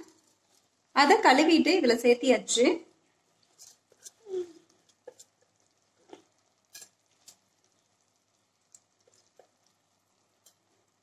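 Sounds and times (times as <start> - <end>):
faint popping of food cooking: 0.0 - 11.0.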